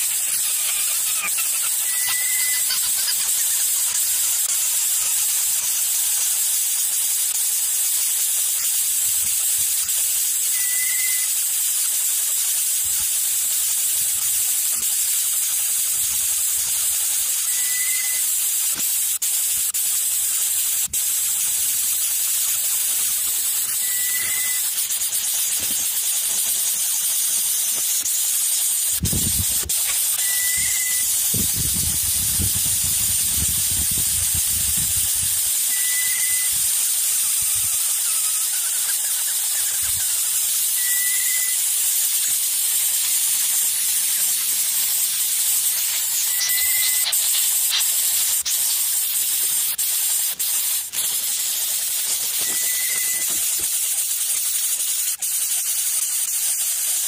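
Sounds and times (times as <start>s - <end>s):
high-pitched hiss: 0.0s - 57.0s.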